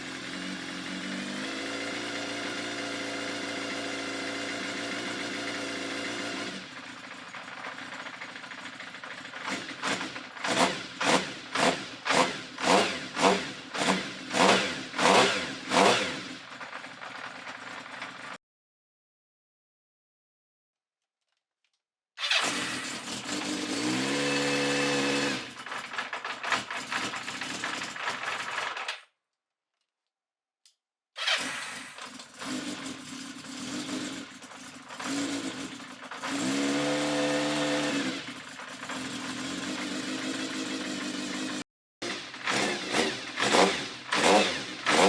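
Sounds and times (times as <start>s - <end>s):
motorcycle engine revving: 0.0s - 18.4s, 22.2s - 28.7s, 31.2s - 45.0s.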